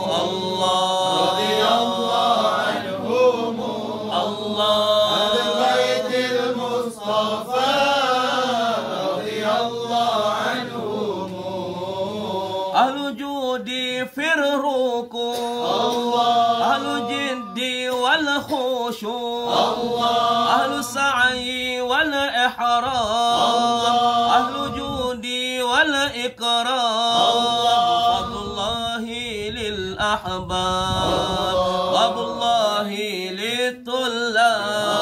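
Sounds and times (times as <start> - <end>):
men chanting together: 0.0 - 35.0.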